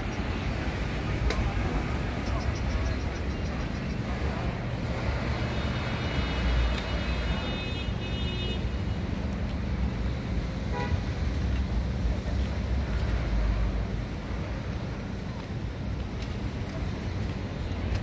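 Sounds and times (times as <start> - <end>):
rumble of passing cars: 0.0 - 18.0.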